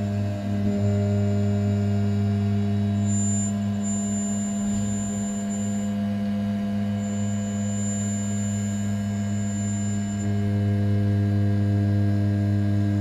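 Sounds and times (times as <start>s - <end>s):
milling spindle hum: 0.0s - 13.0s
thin high whine: 0.0s - 13.0s.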